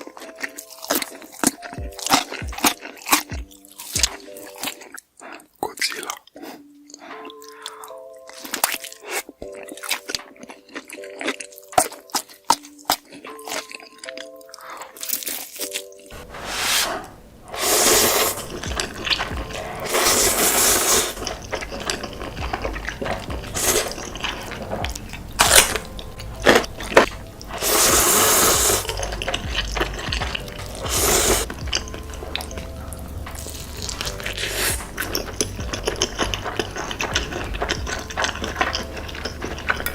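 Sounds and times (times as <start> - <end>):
eating crunches and mouth clicks: 0.0 - 16.2, 17.5 - 39.9
plucked background melody: 0.0 - 39.9.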